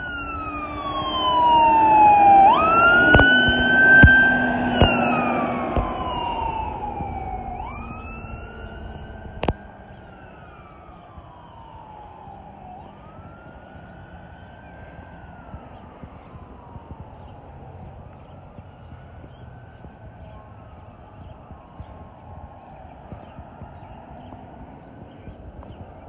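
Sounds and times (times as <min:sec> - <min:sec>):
ambulance siren wailing: 0:00.0 - 0:26.0.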